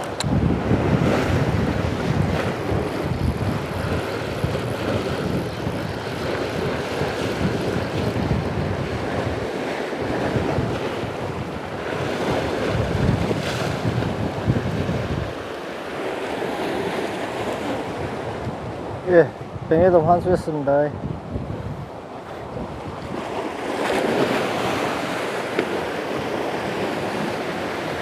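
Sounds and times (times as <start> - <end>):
sea waves breaking on rocks: 0.0 - 19.3, 22.0 - 28.0
wind rumbling on microphone: 0.0 - 28.0.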